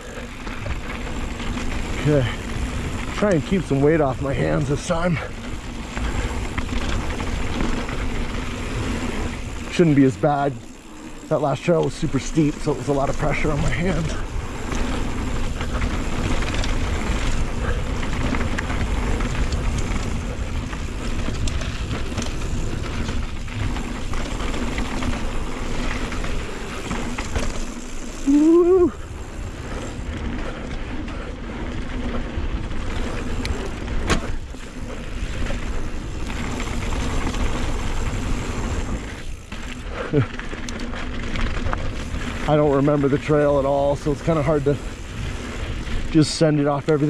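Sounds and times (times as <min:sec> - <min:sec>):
bike clattering over bumps: 0:00.0 - 0:47.0
wind and tyres rumbling: 0:00.0 - 0:47.0.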